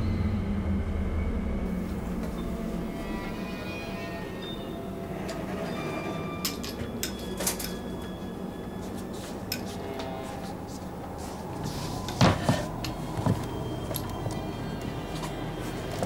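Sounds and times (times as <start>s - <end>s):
dark low drone: 0.0s - 16.0s.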